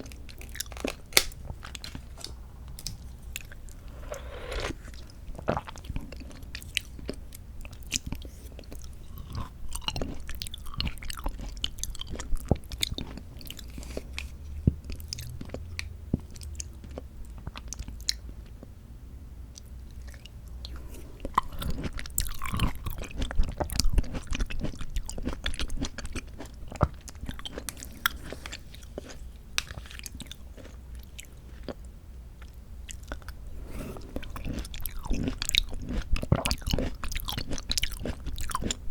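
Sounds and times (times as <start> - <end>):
chewing with wet mouth noises: 0.0 - 18.7, 19.5 - 38.9.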